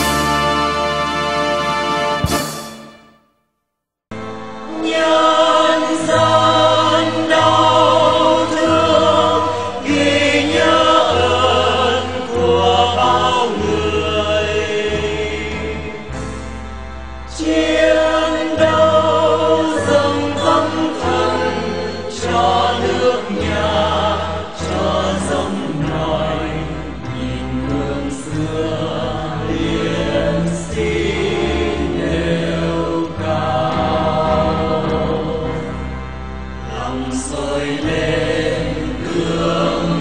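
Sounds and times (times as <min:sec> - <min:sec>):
choir singing: 0:00.0 - 0:03.1, 0:04.6 - 0:16.4, 0:17.3 - 0:40.0
long held bass notes: 0:06.1 - 0:40.0.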